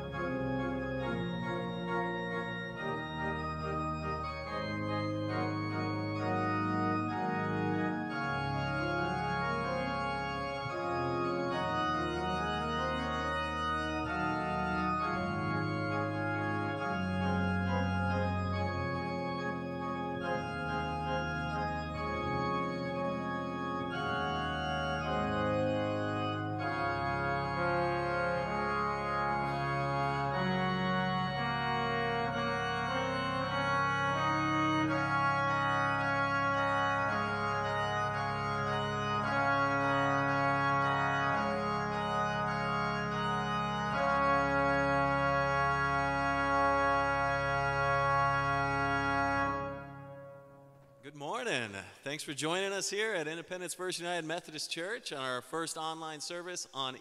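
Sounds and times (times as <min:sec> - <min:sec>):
church organ chords: 0:00.0 - 0:54.4.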